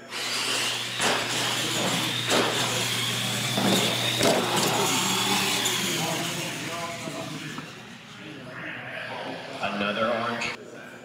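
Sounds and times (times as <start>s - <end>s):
electric motor and gear whine: 0.0s - 10.5s.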